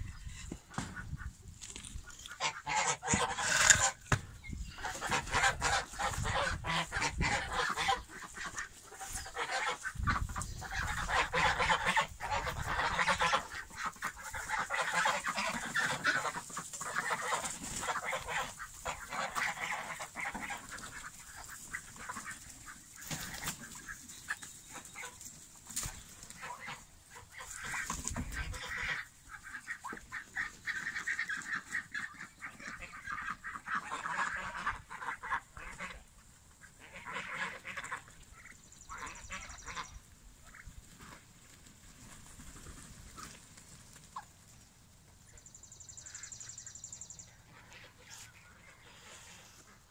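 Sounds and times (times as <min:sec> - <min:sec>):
geese honking: 0:00.0 - 0:44.4, 0:47.3 - 0:49.9
ducks and chickens calling: 0:00.0 - 0:49.9.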